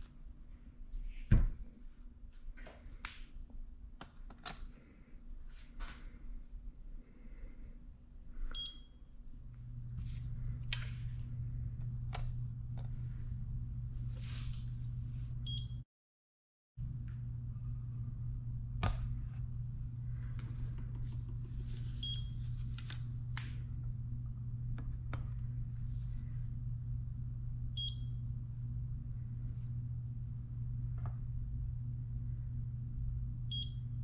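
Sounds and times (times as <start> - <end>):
steady low hum: 0.0 - 15.8, 16.8 - 34.0.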